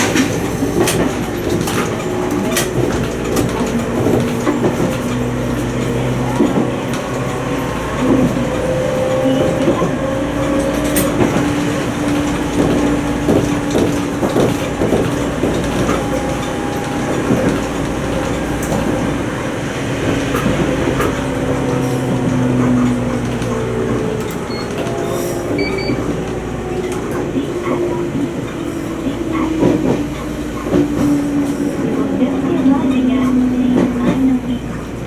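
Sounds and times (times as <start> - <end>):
train wheels rumbling: 0.0 - 35.0
wheels clicking over track: 0.0 - 35.0.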